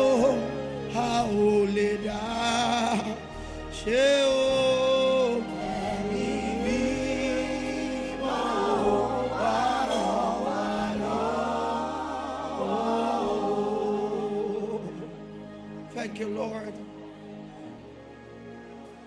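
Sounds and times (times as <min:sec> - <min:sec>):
voices singing worship song: 0:00.0 - 0:17.8.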